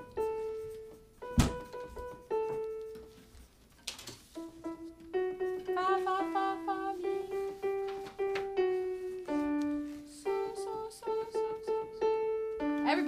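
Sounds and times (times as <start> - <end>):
digital piano melody: 0.0 - 13.0.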